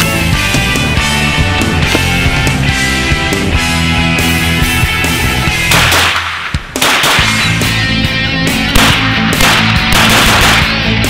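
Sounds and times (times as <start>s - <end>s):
rock music with electric guitar: 0.0s - 11.0s
steady drum beat: 0.0s - 11.0s.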